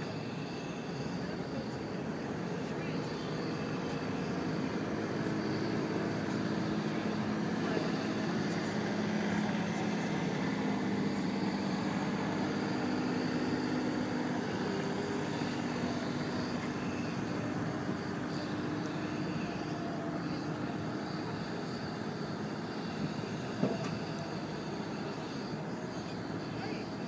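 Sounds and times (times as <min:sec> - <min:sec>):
murmur of crowd voices: 0:00.0 - 0:27.0.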